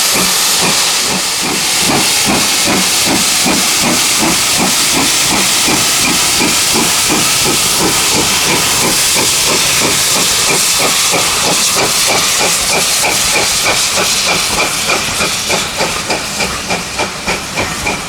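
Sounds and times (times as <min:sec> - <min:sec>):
steam hissing: 0:00.0 - 0:18.0
steam locomotive exhaust beats: 0:00.0 - 0:18.0.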